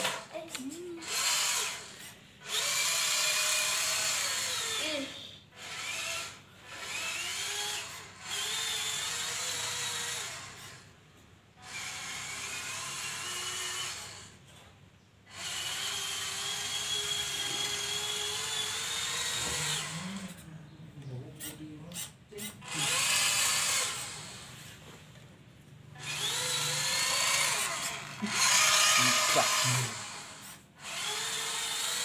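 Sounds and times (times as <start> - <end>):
toy truck electric motor whining: 1.0 - 10.9, 11.6 - 14.4, 15.3 - 20.4, 21.4 - 24.8, 26.0 - 32.0.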